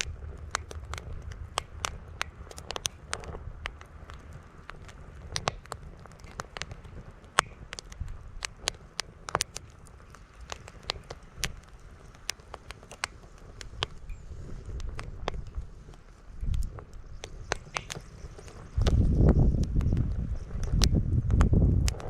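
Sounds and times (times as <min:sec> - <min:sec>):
campfire crackling and popping: 0:00.0 - 0:22.0
wind buffeting microphone: 0:00.0 - 0:22.0.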